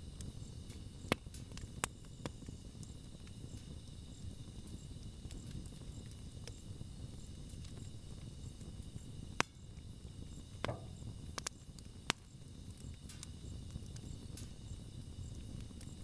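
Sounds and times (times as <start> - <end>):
burning wood crackling pops: 0.0 - 16.0
campfire rumble: 0.0 - 16.0.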